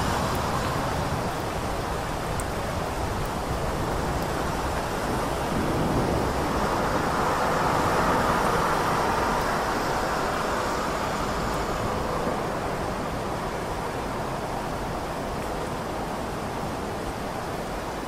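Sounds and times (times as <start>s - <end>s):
city traffic on wet roads: 0.0s - 18.0s
heavy rain falling: 0.0s - 18.0s.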